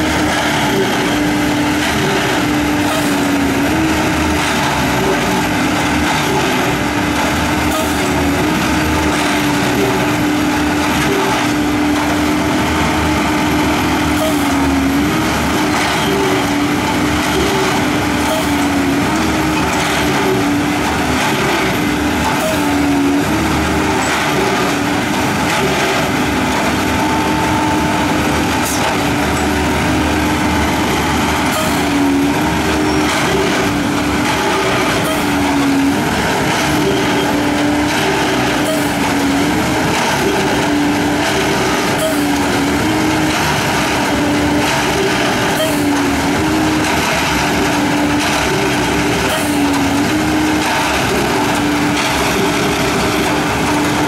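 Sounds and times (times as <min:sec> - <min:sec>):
tamping machine engine and hydraulics: 0:00.0 - 0:54.0.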